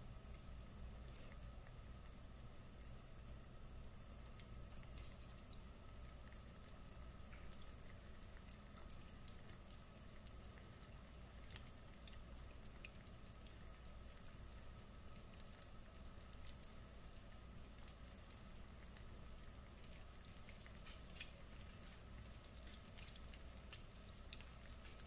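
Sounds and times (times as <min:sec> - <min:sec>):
low steady hum: 0:00.0 - 0:25.0
oil crackling while frying: 0:00.0 - 0:25.0.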